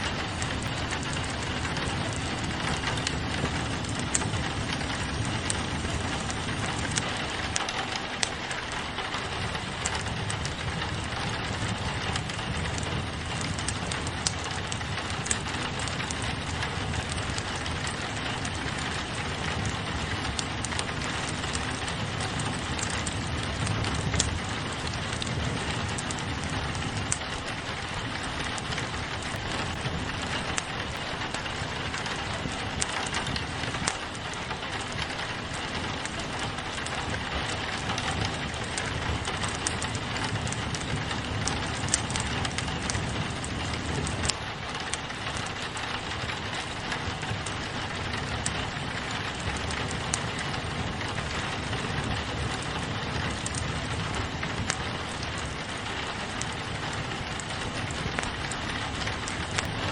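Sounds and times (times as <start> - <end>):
rain on a window: 0.0 - 59.9
wood fire crackling and popping: 0.0 - 59.9.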